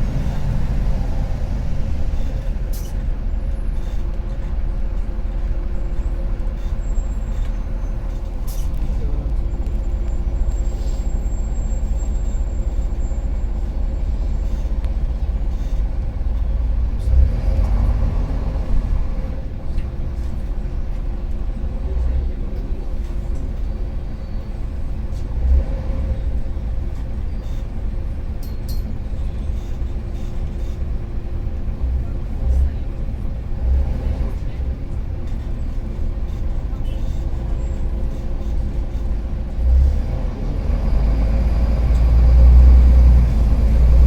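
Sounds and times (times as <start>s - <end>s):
bus engine rattling rumble: 0.0s - 44.0s.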